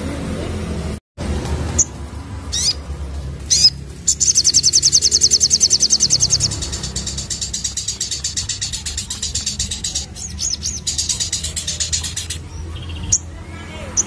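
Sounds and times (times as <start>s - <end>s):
bird chirping and trilling: 1.8s - 14.0s.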